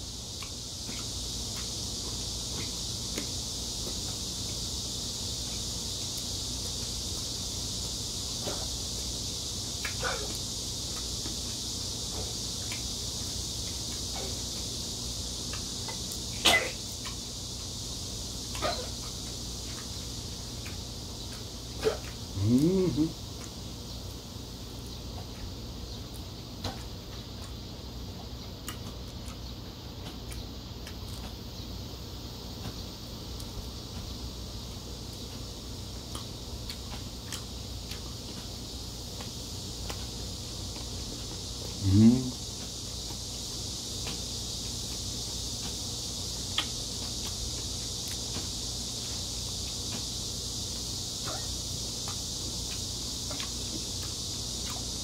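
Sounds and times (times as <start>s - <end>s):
steady high-pitched hiss: 0.0s - 55.0s
steady low hum: 0.0s - 55.0s.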